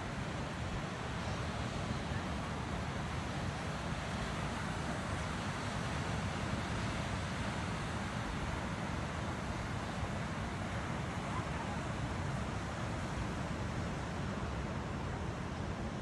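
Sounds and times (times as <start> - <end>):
sea surf: 0.0 - 16.0.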